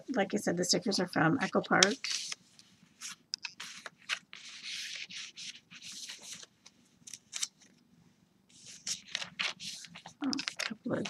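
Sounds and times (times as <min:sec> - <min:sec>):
paper rustling: 0:00.9 - 0:07.8, 0:08.5 - 0:11.0.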